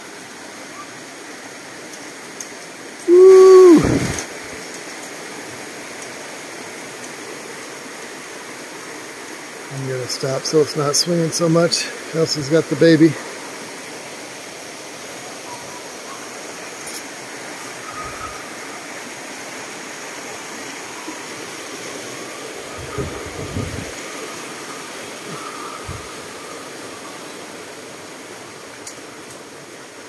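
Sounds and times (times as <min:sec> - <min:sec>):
mountain river rushing: 0:00.0 - 0:30.0.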